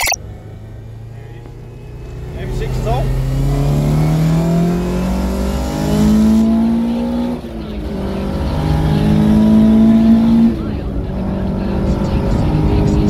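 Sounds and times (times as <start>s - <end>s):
car engine accelerating hard: 0.3s - 13.0s.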